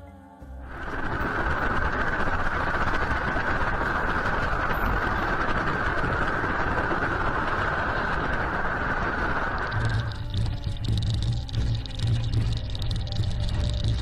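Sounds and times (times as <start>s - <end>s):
rushing rumbling noise: 0.6s - 14.0s.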